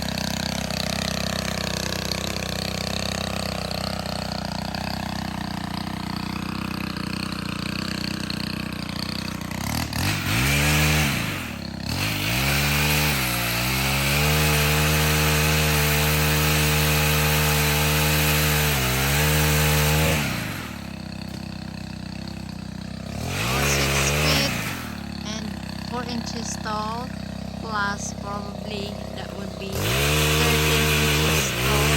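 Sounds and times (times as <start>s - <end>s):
pole saw engine revving: 0.0s - 31.9s.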